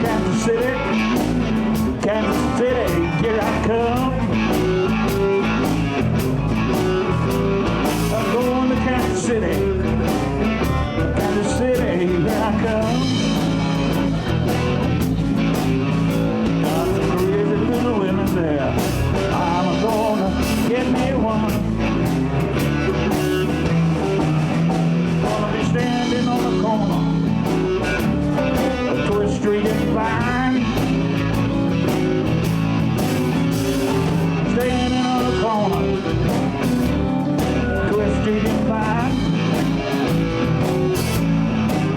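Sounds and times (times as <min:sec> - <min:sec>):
bass guitar: 0:00.0 - 0:41.9
drums: 0:00.0 - 0:41.9
lead guitar bending notes: 0:00.0 - 0:41.9
rhythm guitar: 0:00.0 - 0:41.9.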